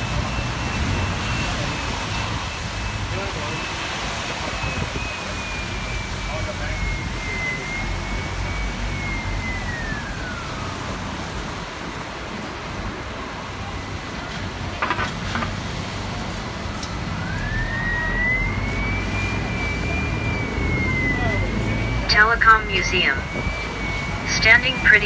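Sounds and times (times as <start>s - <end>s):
bus engine and road rumble: 0.0s - 25.0s
high whine: 0.0s - 25.0s.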